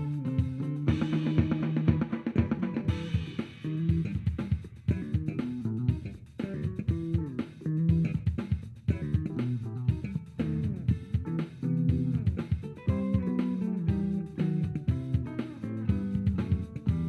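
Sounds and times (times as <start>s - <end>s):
rock music through speaker: 0.0s - 17.0s.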